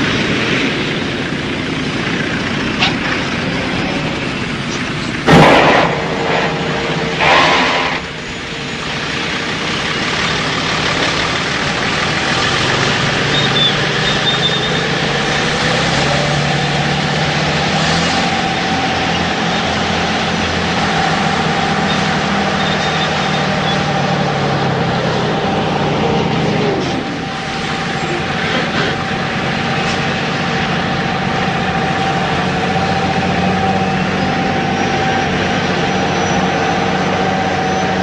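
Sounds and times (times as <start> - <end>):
heavy diesel machinery droning: 0.0 - 38.0.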